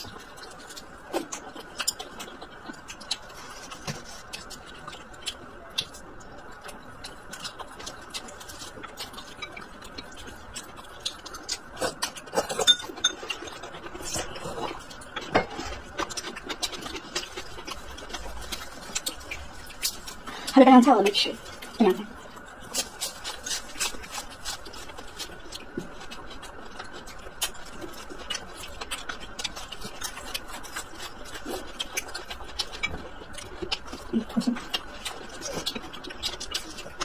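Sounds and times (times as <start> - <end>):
chewing and mouth smacks: 0.0 - 20.5, 21.4 - 37.0.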